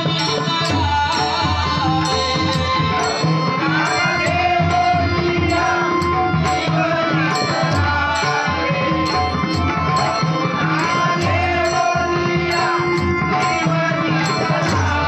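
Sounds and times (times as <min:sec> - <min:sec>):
barrel drum: 0:00.0 - 0:15.0
harmonium tones: 0:00.0 - 0:15.0
person singing devotional melody: 0:00.0 - 0:15.0
tabla: 0:00.0 - 0:15.0.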